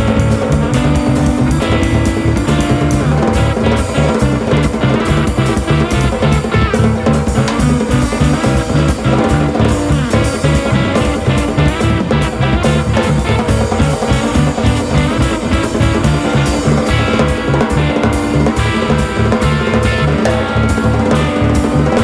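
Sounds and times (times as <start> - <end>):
bass guitar line: 0.0 - 22.0
busy drumming: 0.0 - 22.0
electric guitar: 0.0 - 22.0.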